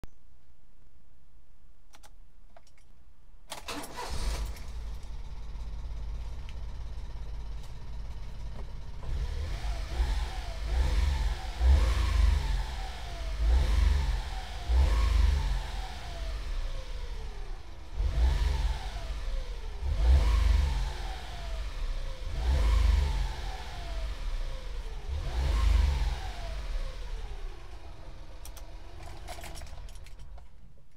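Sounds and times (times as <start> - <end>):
truck engine starting and revving: 3.6 - 30.6.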